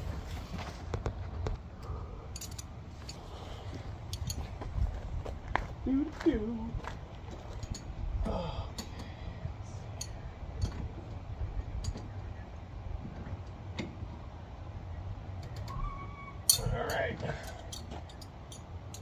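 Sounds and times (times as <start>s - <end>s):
steady low rumble: 0.0s - 15.7s, 16.3s - 19.0s.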